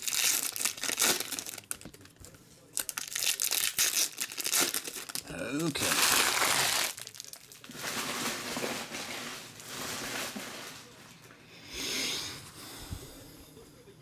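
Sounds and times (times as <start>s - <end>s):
foil wrappers crinkling: 0.0s - 11.3s.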